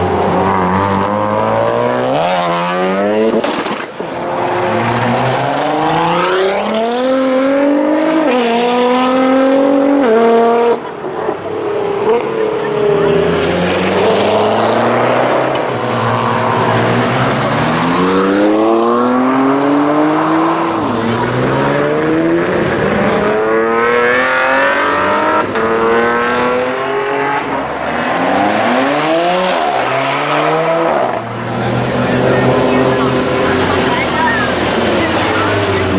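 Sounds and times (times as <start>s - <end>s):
race cars accelerating: 0.0s - 35.9s.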